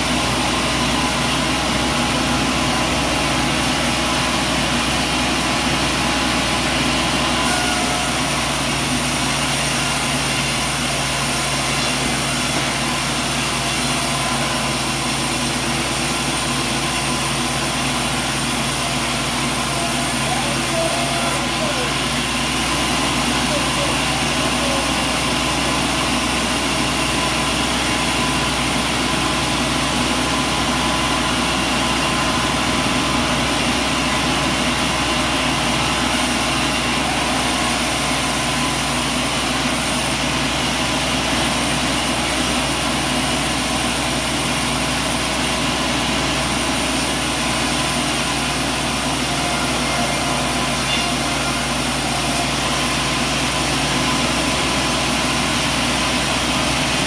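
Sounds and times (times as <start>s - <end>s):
heavy machinery drone: 0.0s - 57.0s.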